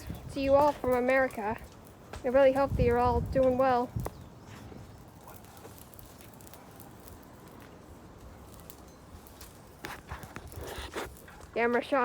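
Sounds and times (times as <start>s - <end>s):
bonfire crackling and popping: 0.0s - 12.0s
low steady background noise: 0.0s - 12.0s.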